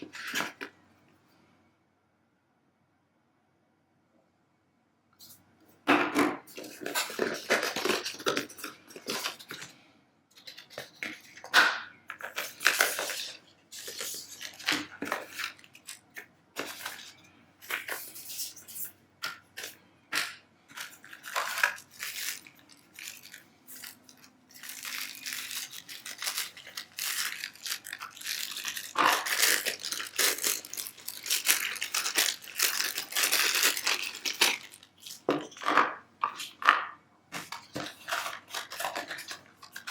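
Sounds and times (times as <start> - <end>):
packaging crinkling and rustling: 0.0 - 0.7, 6.4 - 39.9.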